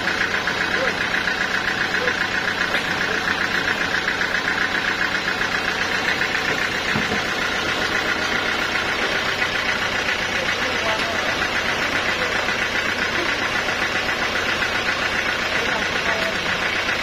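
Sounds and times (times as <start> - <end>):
sawmill machinery drone: 0.0 - 17.0.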